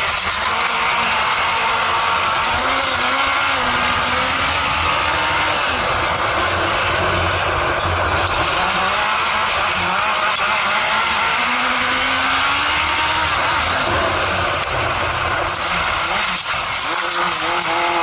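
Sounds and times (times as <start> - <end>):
motorcycle engine revving under load: 0.0 - 18.0.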